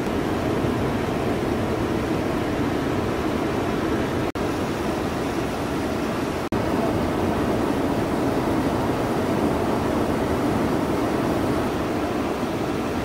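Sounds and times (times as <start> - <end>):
heavy ocean surf roaring: 0.0 - 13.0
wind noise: 0.0 - 13.0.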